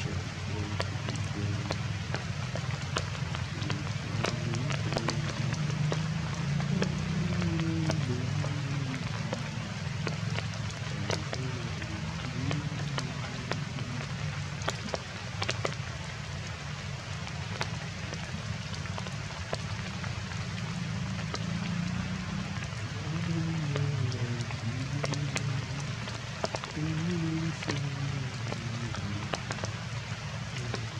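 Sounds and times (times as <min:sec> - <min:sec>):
heavy rain falling: 0:00.0 - 0:30.9
raindrops tapping surfaces: 0:00.0 - 0:30.9.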